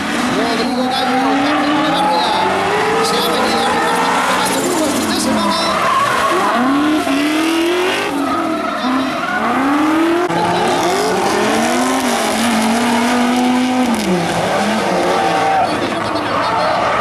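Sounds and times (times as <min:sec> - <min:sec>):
car engines revving: 0:00.0 - 0:17.0
tyres squealing: 0:00.0 - 0:17.0.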